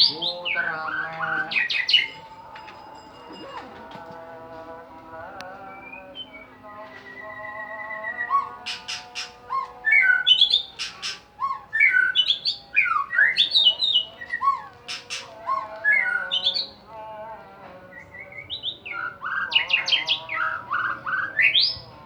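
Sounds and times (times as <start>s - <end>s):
songbird singing varied song: 0.0s - 2.7s, 5.0s - 22.0s.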